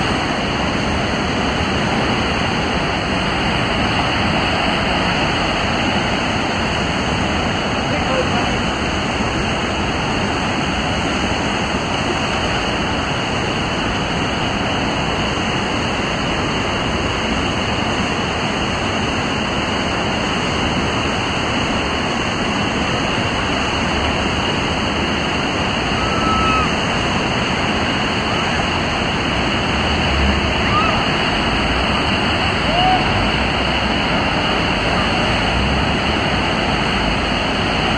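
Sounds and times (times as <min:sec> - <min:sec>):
whitewater rapid roaring: 0:00.0 - 0:37.9.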